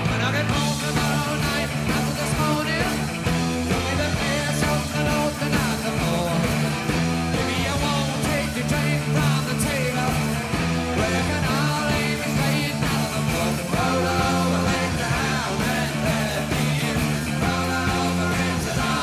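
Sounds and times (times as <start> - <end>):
rock music: 0.0 - 19.0.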